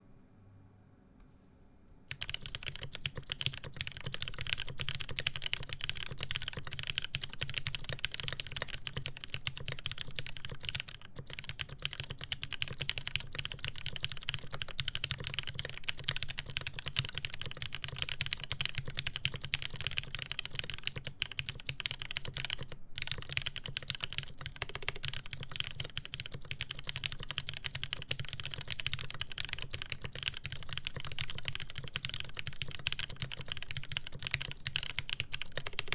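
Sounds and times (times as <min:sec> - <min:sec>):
fast mechanical keyboard typing: 0:02.1 - 0:35.9.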